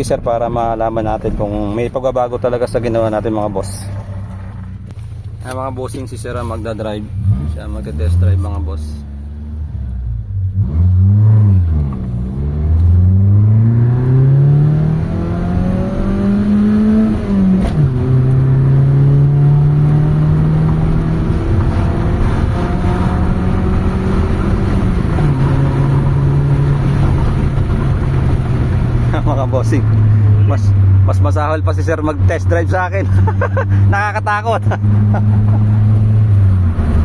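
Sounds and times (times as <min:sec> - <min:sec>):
car engine accelerating: 0:00.9 - 0:37.0.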